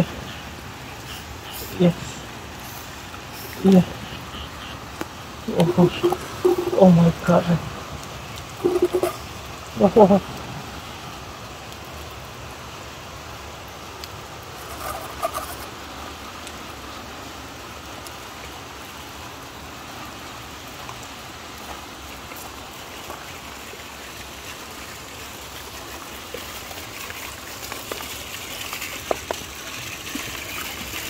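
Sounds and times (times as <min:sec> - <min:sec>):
rain falling on wet ground: 0:00.0 - 0:31.0
water trickling over stones: 0:00.0 - 0:31.0.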